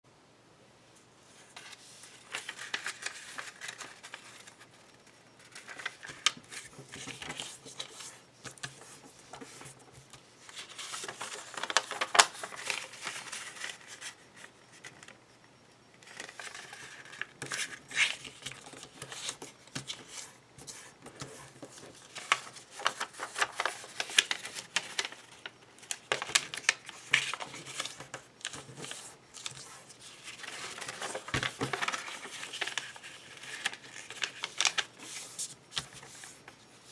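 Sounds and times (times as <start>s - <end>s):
paper crinkling and rustling: 1.3s - 15.2s, 16.0s - 36.9s.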